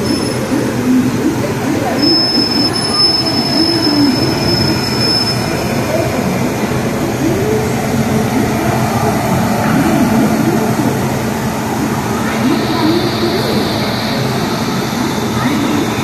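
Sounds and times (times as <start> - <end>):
locomotive and rail running noise: 0.0 - 16.0.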